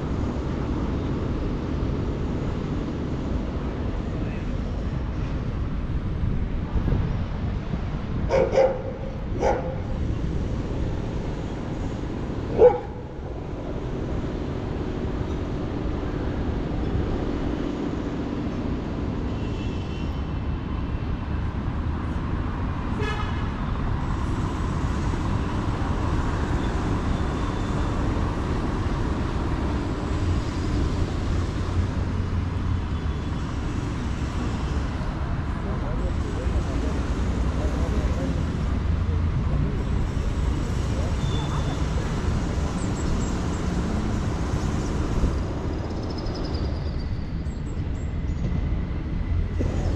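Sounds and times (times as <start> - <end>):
traffic rumble: 0.0 - 49.9.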